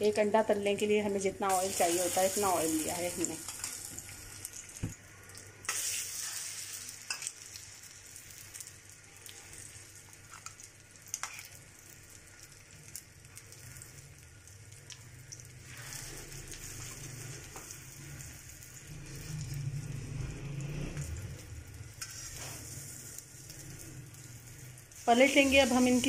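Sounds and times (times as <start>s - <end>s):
kebabs sizzling in oil: 0.0s - 26.0s.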